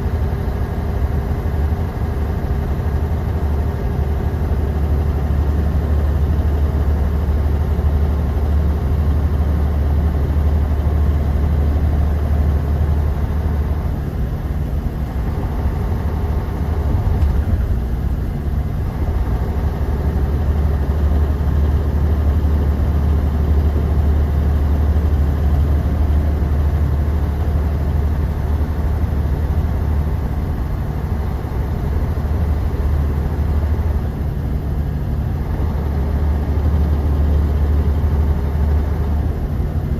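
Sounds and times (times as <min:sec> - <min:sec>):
bus engine drone: 0:00.0 - 0:39.9
road and tyre noise: 0:00.0 - 0:39.9.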